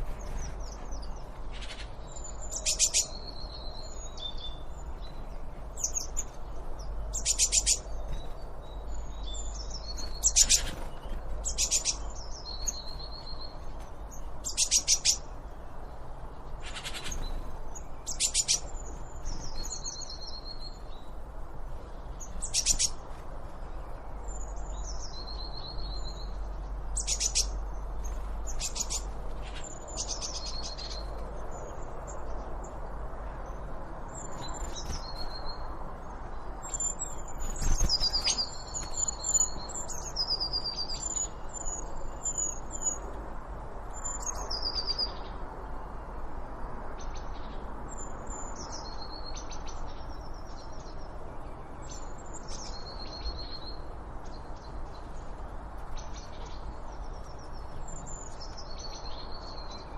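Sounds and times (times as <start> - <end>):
small birds chirping: 0.0 - 46.1, 46.9 - 59.9.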